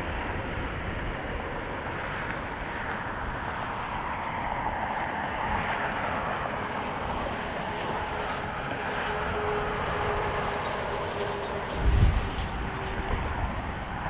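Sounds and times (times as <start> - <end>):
jet engines running: 0.1 - 14.0.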